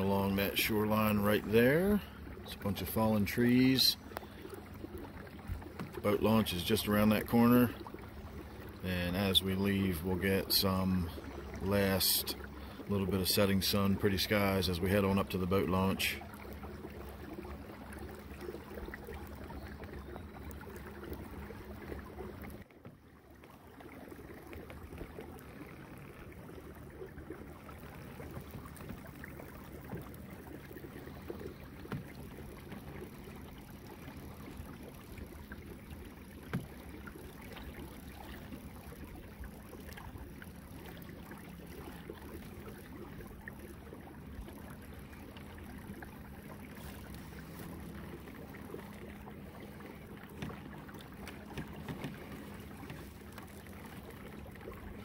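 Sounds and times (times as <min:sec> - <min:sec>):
water washing along a hull: 0:00.0 - 0:55.0
motor hum: 0:01.1 - 0:55.0.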